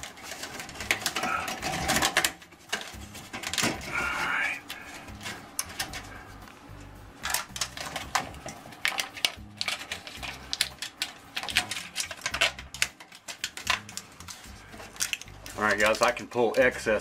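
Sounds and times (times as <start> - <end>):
foil tape being pressed: 0.0 - 6.2, 7.2 - 16.3
flexible duct crinkling: 0.0 - 17.0.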